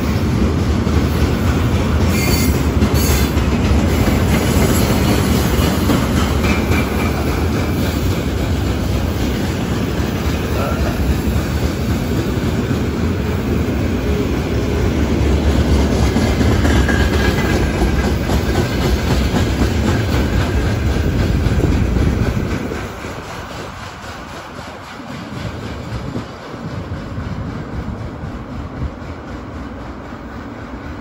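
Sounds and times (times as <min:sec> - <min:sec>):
train wheels rumbling: 0:00.0 - 0:31.0
clatter over rail joints: 0:00.4 - 0:13.2, 0:15.2 - 0:30.1.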